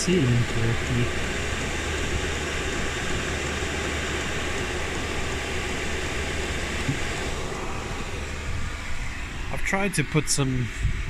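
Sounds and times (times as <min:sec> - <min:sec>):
heater blower fan whoosh: 0:00.0 - 0:11.0
low hum: 0:00.0 - 0:11.0.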